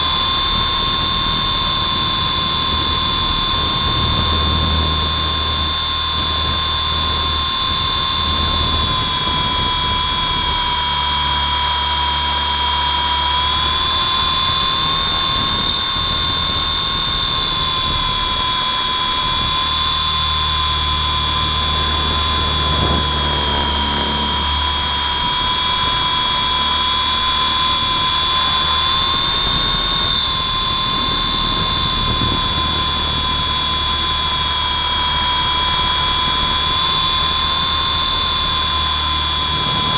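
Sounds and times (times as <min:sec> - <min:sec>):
electric motor whine: 0:00.0 - 0:39.9
helicopter rotor hum: 0:00.0 - 0:39.9.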